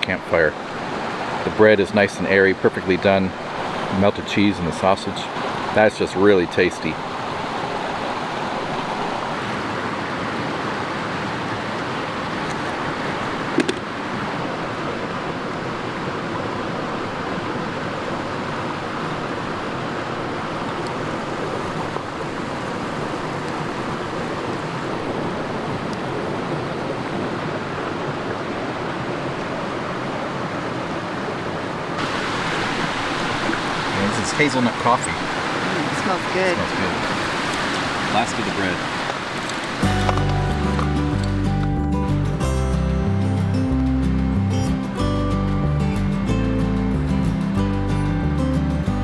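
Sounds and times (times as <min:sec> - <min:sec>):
mountain creek rushing: 0:00.0 - 0:44.9.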